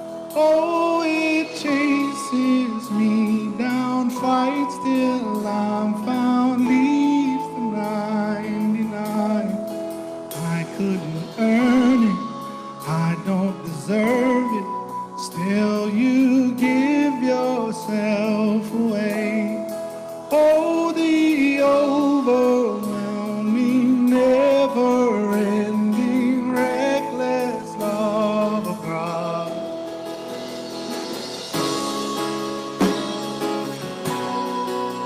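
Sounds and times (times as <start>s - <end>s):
man singing with vibrato: 0.0s - 30.2s
held chords: 0.0s - 35.0s.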